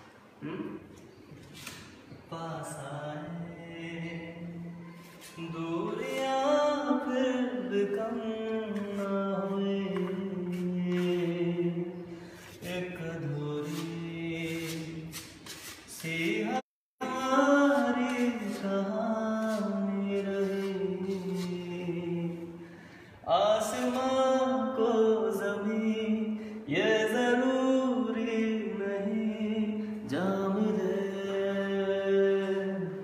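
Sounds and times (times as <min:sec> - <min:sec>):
man singing unaccompanied: 0:02.3 - 0:15.2, 0:15.9 - 0:22.6, 0:23.2 - 0:33.0.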